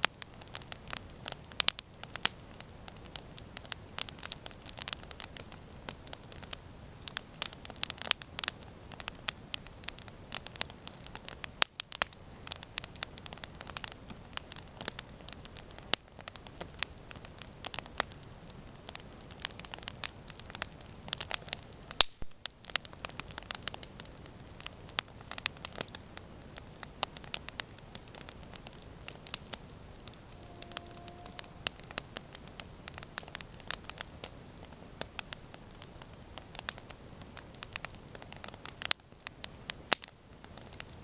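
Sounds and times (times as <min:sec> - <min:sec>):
fire low hiss: 0:00.0 - 0:41.0
loud fire pops: 0:00.0 - 0:41.0
wood crackling and snapping: 0:00.0 - 0:41.0.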